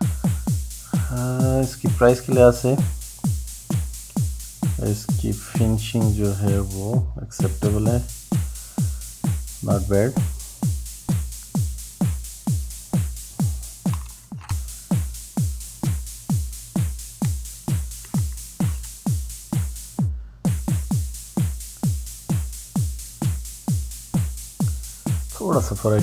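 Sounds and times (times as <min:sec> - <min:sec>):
electronic music with kick drum: 0:00.0 - 0:26.0.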